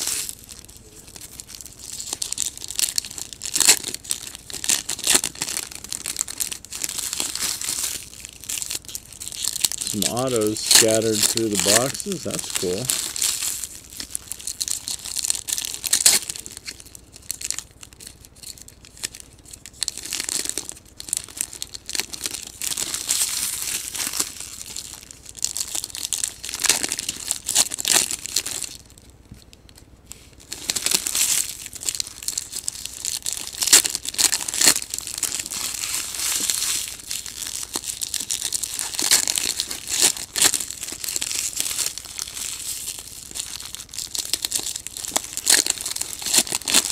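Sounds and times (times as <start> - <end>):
foil wrappers tearing and crinkling: 0.0 - 29.0, 30.1 - 46.9.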